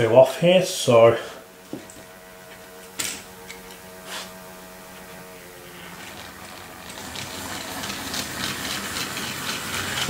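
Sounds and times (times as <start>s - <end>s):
steady electric hum: 0.0s - 10.0s.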